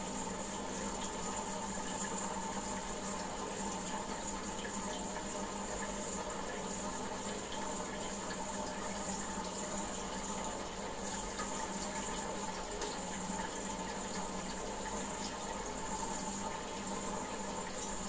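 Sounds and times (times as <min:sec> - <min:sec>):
aquarium water splashing: 0:00.0 - 0:18.0.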